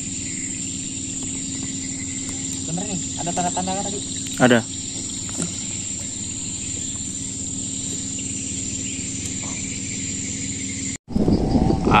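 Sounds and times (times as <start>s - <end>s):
low steady rumble: 0.0s - 11.8s
insect chorus: 0.0s - 12.0s.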